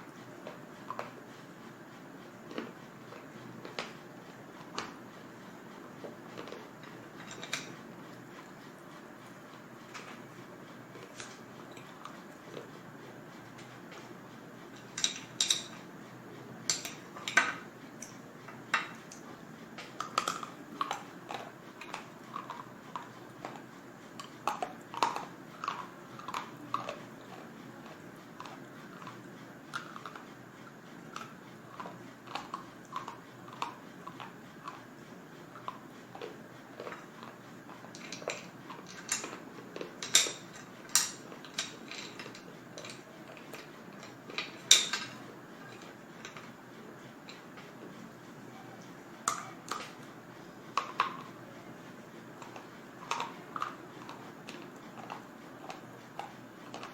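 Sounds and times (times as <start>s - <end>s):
crunching chewing of slate bar: 2.4s - 14.1s, 16.8s - 47.9s, 48.6s - 56.9s.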